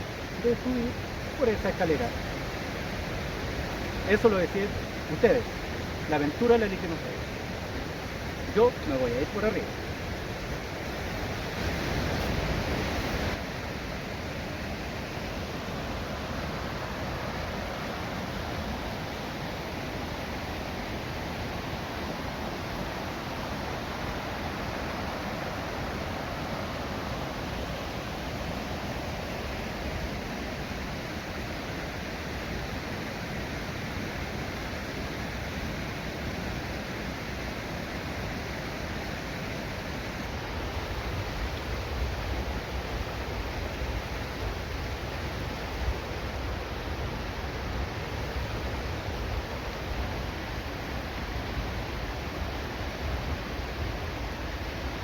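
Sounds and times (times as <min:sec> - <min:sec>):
mountain river and waterfall rushing: 0:00.0 - 0:55.0.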